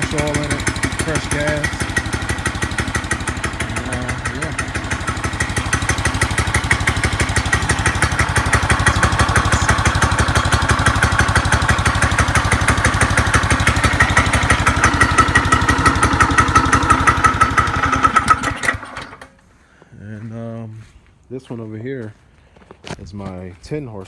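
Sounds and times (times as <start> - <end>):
go-kart engine running: 0.0 - 19.3.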